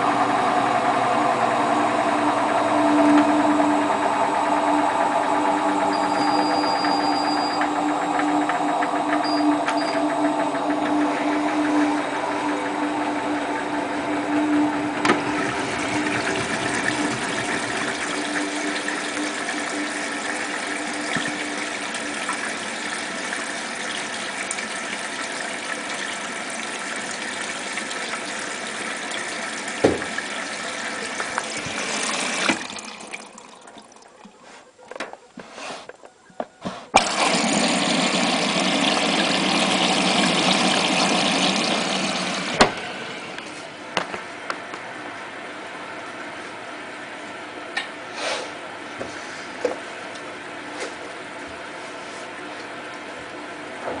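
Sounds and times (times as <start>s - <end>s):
washing machine motor whine: 0.0s - 34.4s, 36.3s - 54.0s
washing machine rushing water: 0.0s - 34.4s, 37.0s - 44.4s, 49.1s - 54.0s.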